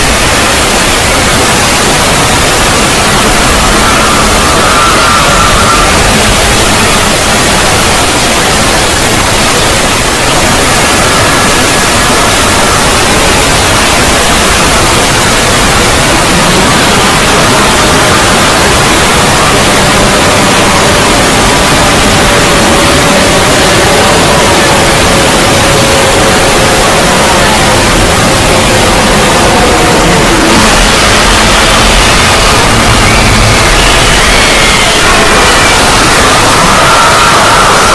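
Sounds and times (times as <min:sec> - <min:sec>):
loud distorted static noise: 0:00.0 - 0:37.9.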